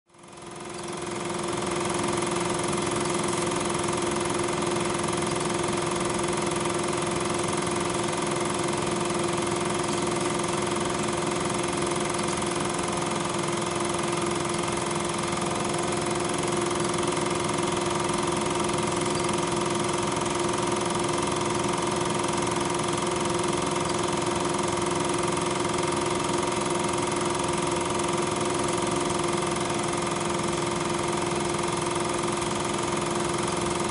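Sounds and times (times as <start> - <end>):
film projector motor whirring: 0.1 - 33.9.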